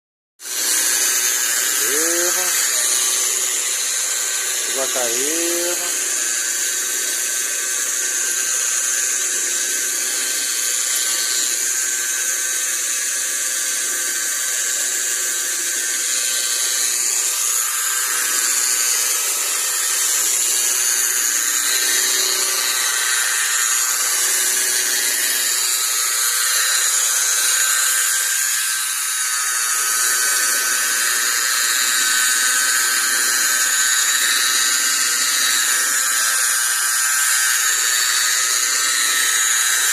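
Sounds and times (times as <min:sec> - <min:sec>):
polishing machine motor whine: 0:00.4 - 0:39.9.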